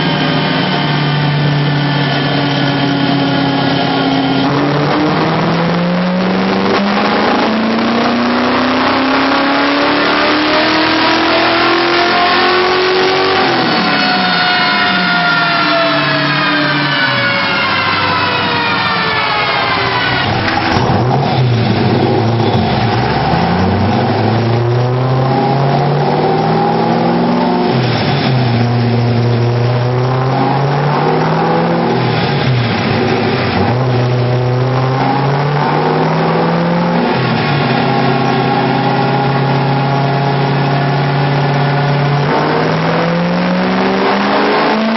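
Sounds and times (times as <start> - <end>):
engine revving under load: 0.0 - 44.9.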